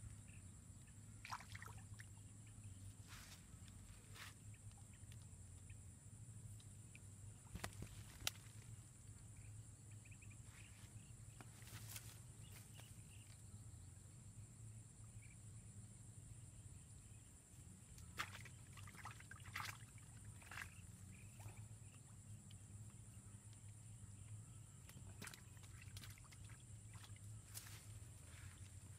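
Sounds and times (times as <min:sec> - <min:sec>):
faint high hum: 0:00.0 - 0:28.9.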